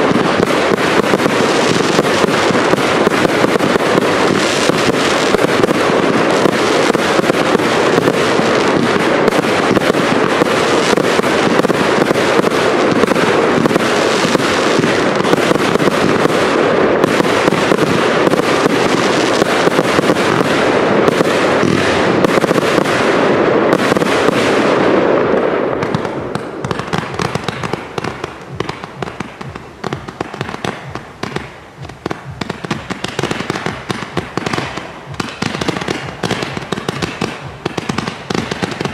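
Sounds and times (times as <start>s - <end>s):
fireworks bangs and crackle: 0.0s - 38.9s.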